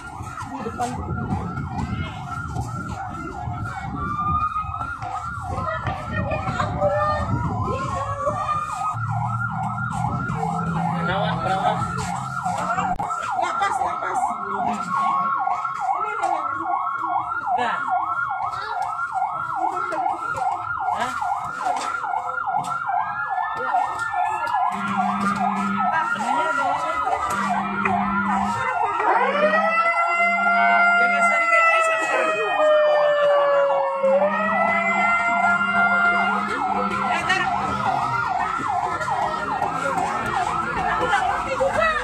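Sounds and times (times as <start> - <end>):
fast yelping siren: 0.0 - 42.0
wailing siren: 0.0 - 42.0.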